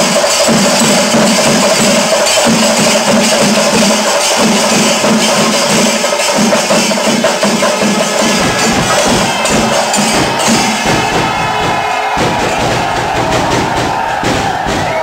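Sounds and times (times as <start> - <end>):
fast dense percussion: 0.0 - 15.0.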